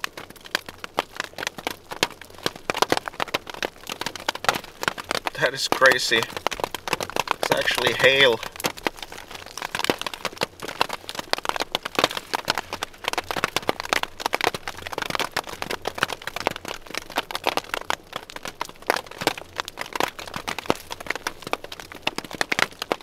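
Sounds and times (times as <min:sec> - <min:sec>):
hailstones hitting a tarp: 0:00.0 - 0:23.0.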